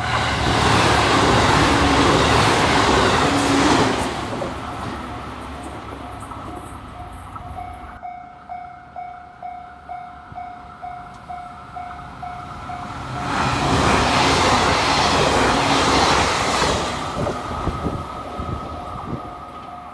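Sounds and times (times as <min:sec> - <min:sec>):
train passing rumble: 0:00.0 - 0:19.9.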